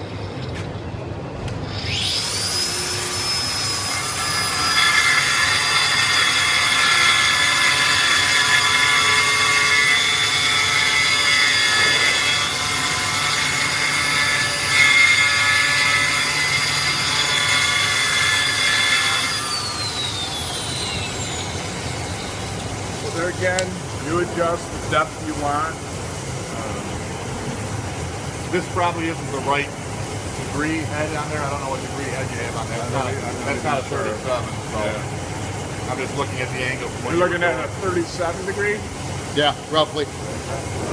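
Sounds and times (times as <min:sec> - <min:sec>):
electric pipe beveler whining: 0:01.5 - 0:27.7, 0:30.4 - 0:38.8.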